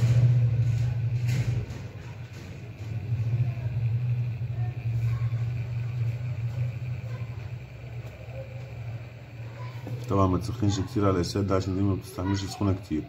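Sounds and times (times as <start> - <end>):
hot-air station blowing: 0.0 - 13.0.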